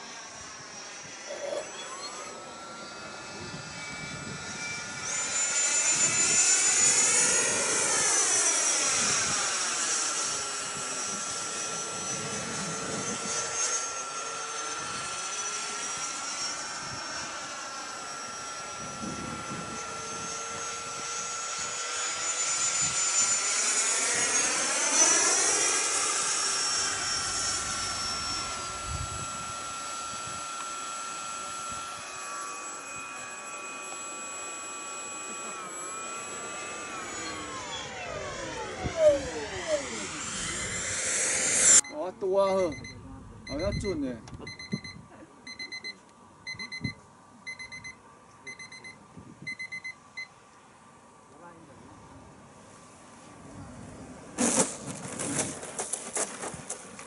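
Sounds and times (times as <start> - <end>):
ducted fan high-pitched whine: 0.0 - 57.0.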